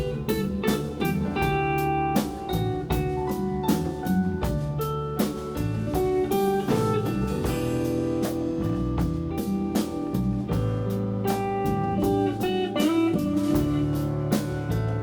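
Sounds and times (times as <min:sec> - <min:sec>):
guitar: 0:00.0 - 0:15.0
live soul band playing: 0:00.0 - 0:15.0.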